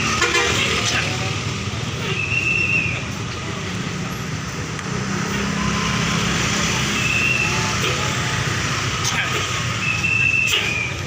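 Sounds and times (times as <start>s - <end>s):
street traffic engines: 0.0s - 11.0s.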